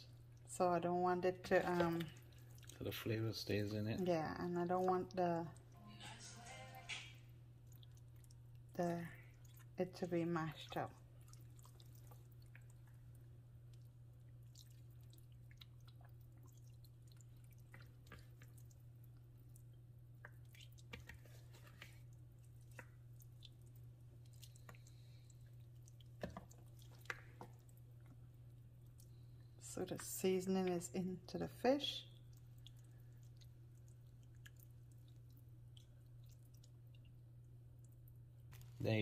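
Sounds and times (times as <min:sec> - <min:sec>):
hands rolling wet fish in bowl: 0:00.6 - 0:05.7, 0:07.6 - 0:37.2.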